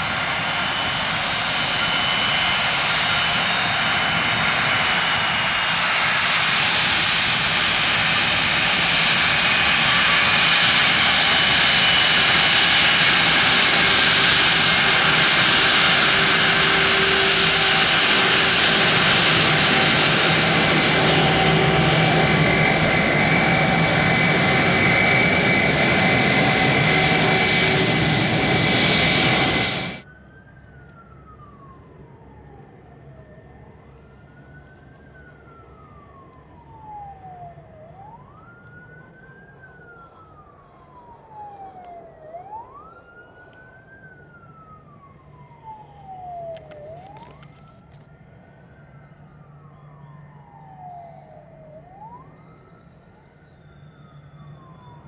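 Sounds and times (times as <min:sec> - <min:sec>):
faint siren wailing: 0:00.0 - 0:55.0
jet engines roaring with whine: 0:00.0 - 0:55.0.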